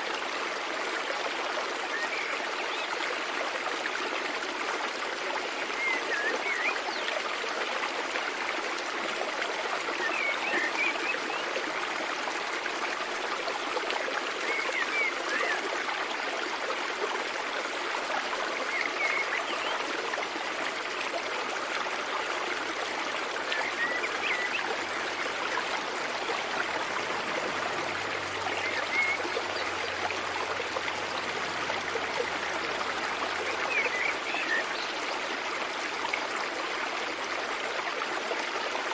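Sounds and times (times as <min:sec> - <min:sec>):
stream rushing water: 0:00.0 - 0:38.9.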